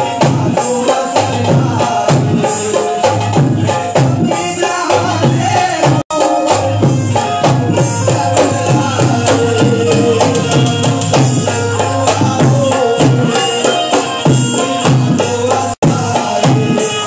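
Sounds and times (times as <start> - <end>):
harmonium tones: 0.0 - 17.0
tabla beat: 0.0 - 17.0.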